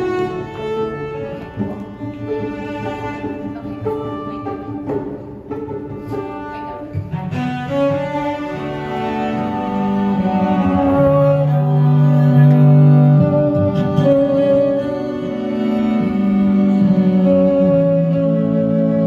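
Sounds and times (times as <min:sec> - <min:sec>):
string quartet playing: 0:00.0 - 0:19.0.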